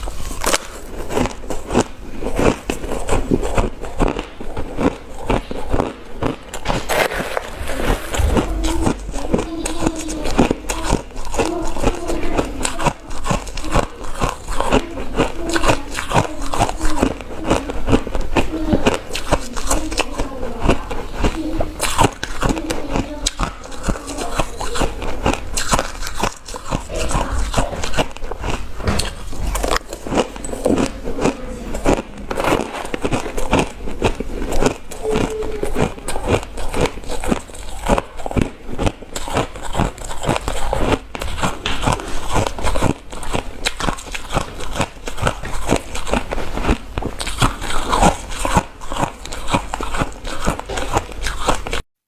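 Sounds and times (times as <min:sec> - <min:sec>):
ice crunching while chewed: 0:00.0 - 0:51.8.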